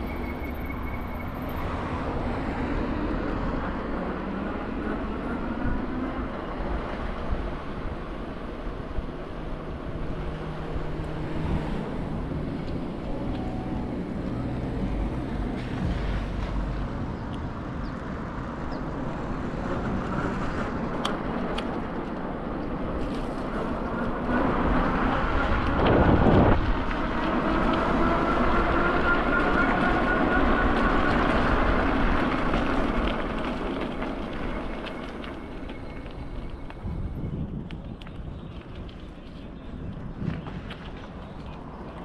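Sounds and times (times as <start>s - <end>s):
city street traffic: 0.0s - 42.0s.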